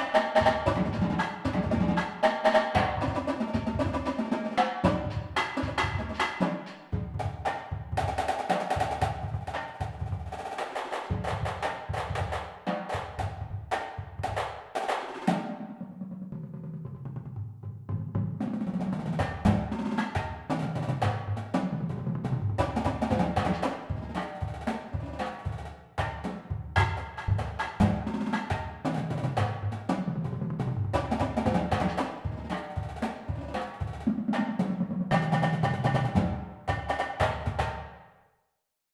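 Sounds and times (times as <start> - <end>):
snare drum rolls: 0.0 - 15.9, 17.9 - 38.0
marching drumline: 0.0 - 16.5, 18.0 - 38.0.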